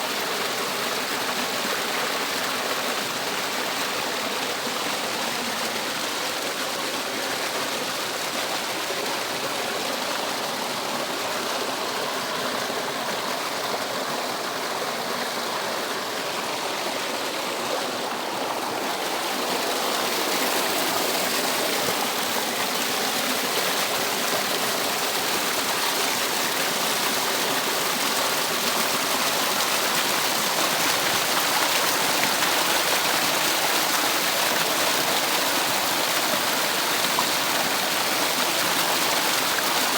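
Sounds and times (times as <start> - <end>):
water rushing down a cascade: 0.0 - 39.9.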